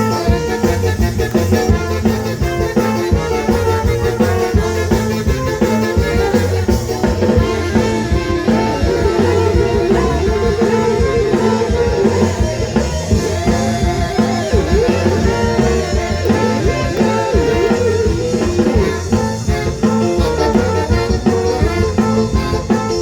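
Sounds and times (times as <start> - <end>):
brass playing: 0.0 - 23.0
drum kit: 0.0 - 23.0
guitar: 0.0 - 23.0.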